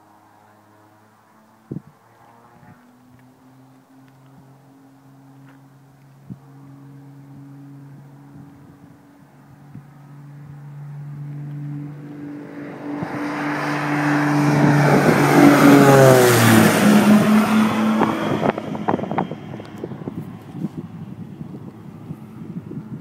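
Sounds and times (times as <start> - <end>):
propeller airplane passing overhead: 0.0 - 23.0.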